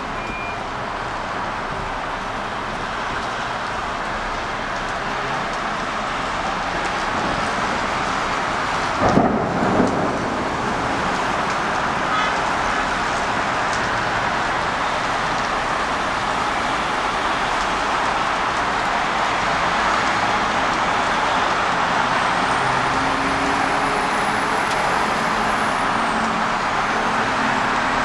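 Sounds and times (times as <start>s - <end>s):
heavy rain hiss: 0.0s - 28.0s.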